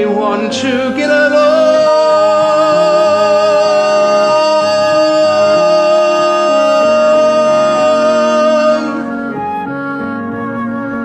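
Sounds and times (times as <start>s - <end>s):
person singing long high note: 0.0s - 9.8s
accompaniment chords: 0.0s - 11.0s.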